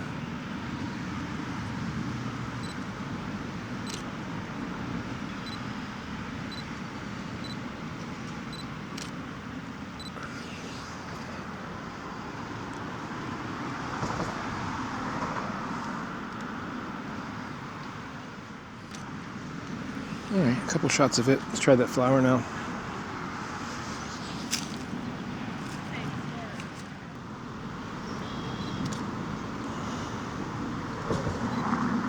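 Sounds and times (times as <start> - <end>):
steady outdoor rumble: 0.0 - 32.0.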